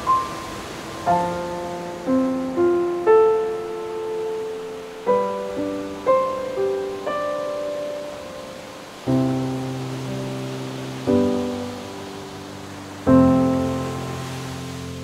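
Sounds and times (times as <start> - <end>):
gentle solo piano: 0.0 - 15.0
ocean waves hissing: 0.0 - 15.0.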